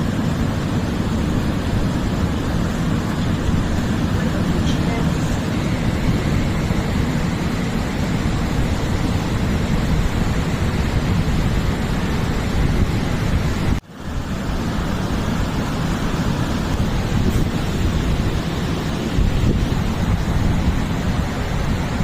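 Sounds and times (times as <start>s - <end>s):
sea waves washing on beach: 0.0s - 22.0s
wind buffeting microphone: 0.0s - 22.0s.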